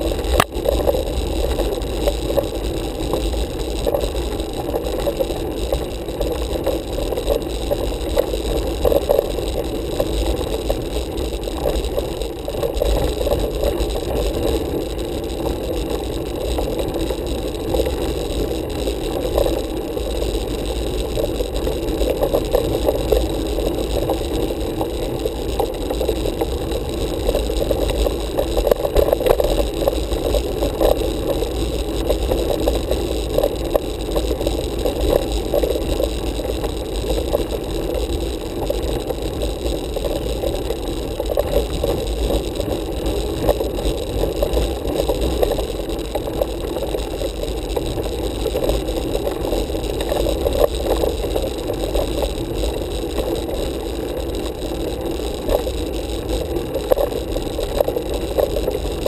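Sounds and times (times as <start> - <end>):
bicycle rattling: 0.0 - 59.0
bike tyre rumble on tarmac: 0.0 - 59.0.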